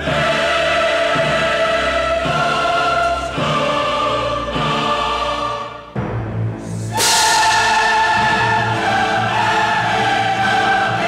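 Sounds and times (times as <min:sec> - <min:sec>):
choir singing sustained chords: 0:00.0 - 0:11.0.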